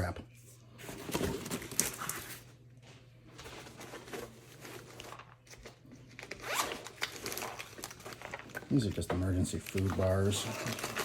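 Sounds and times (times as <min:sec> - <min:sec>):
plastic packaging crinkling: 0:00.8 - 0:02.6, 0:03.4 - 0:11.0.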